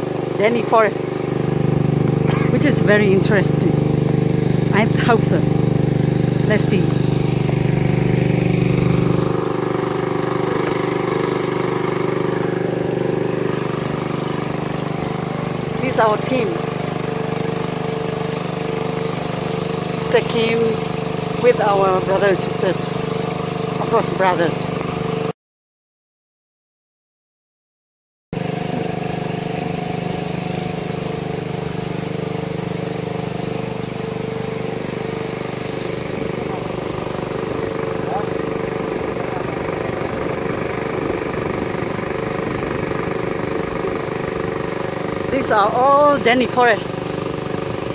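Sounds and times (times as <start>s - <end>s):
boat engine running: 0.0s - 25.3s, 28.4s - 47.9s.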